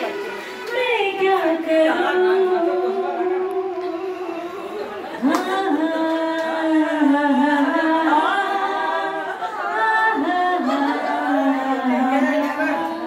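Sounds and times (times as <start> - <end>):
women singing together: 0.0 - 13.0.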